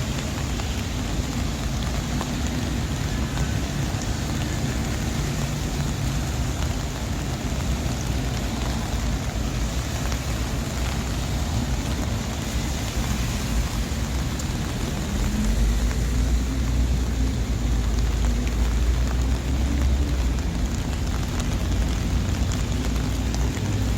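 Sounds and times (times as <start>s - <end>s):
heavy vehicle engine rumble: 0.0s - 23.9s
rain falling: 0.0s - 23.9s
traffic on a wet street: 0.0s - 23.9s.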